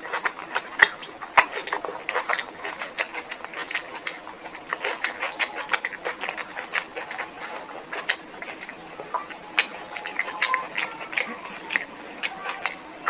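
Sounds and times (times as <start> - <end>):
chewing and smacking: 0.0 - 13.0.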